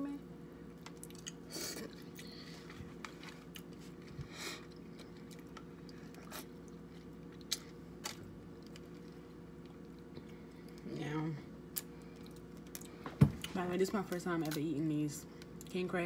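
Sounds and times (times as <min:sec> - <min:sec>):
chewing and wet smacking: 0:00.7 - 0:10.9, 0:11.7 - 0:15.8.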